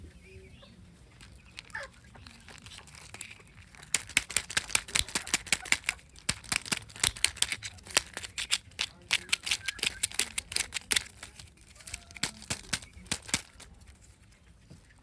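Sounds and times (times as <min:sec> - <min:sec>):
wrapper crinkling and tearing: 0:01.2 - 0:14.2.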